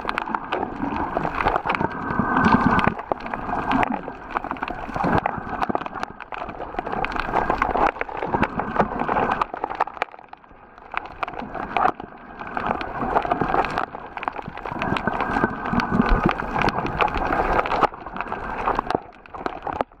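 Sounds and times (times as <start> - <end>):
muffled underwater noise: 0.0 - 20.0
sharp clicks and crackles: 0.0 - 20.0.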